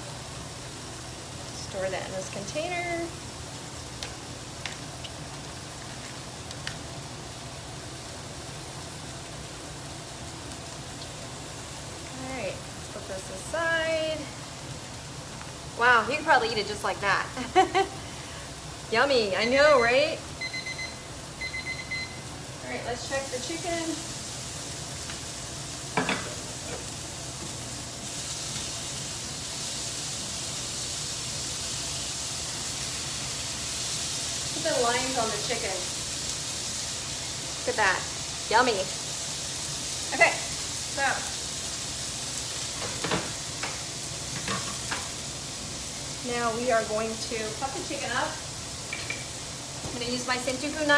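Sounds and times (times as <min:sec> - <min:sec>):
chicken sizzling in a pan: 0:00.0 - 0:50.9.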